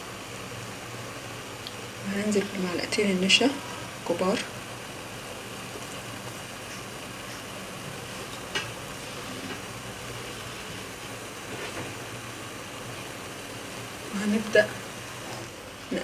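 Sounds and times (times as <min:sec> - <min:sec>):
pot sizzling: 0:00.0 - 0:16.0.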